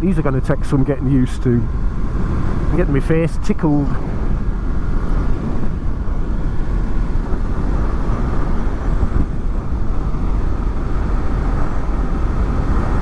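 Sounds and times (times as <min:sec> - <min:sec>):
wind blast off fairing: 0:00.0 - 0:13.0
wind rush: 0:00.0 - 0:13.0.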